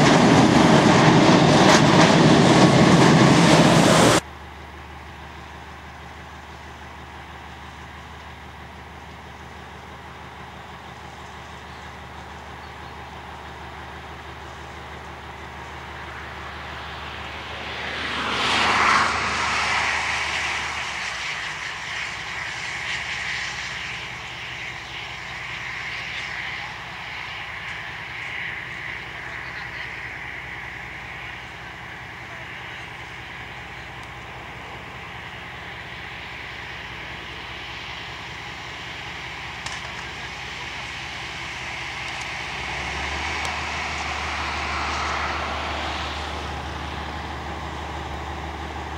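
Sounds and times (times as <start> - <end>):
diesel locomotive engine running: 0.0 - 48.9.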